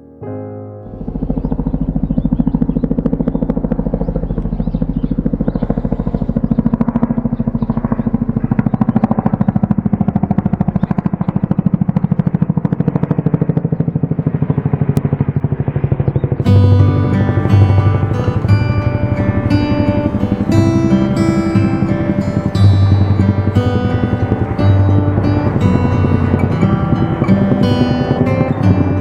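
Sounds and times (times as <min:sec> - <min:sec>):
helicopter rotor chop: 0:00.9 - 0:29.0.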